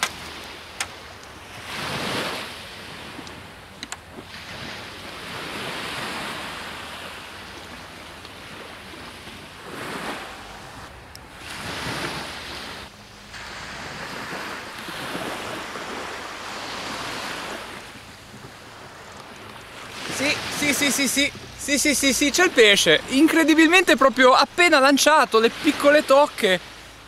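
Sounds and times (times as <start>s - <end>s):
sea waves breaking on beach: 0.0s - 27.0s.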